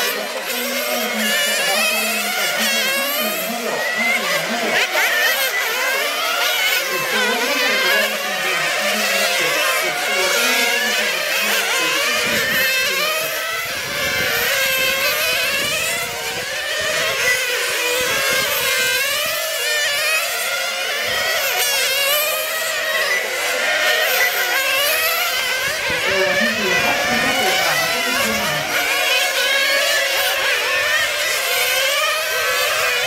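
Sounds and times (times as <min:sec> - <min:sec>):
rc car engines revving: 0:00.0 - 0:33.0.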